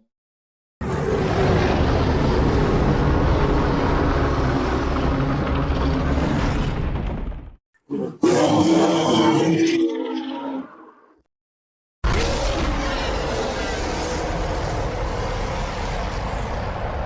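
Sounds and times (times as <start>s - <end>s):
droning monster roar: 0.8s - 6.9s, 7.9s - 11.1s, 12.0s - 17.0s
deep monster roar: 0.8s - 7.0s, 7.9s - 11.1s, 12.0s - 17.0s.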